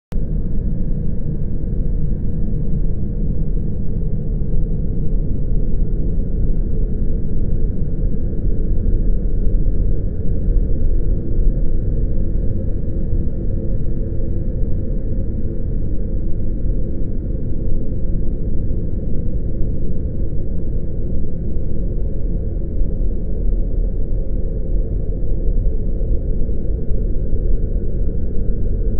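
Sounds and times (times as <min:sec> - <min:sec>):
dark low rumbling drone: 0:00.1 - 0:28.9.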